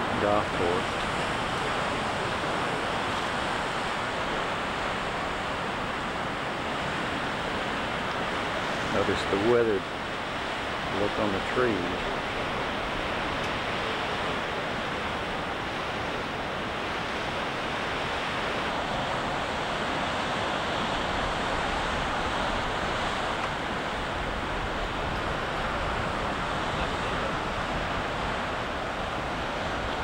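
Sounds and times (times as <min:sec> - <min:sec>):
surf on rocky shore: 0:00.0 - 0:30.0.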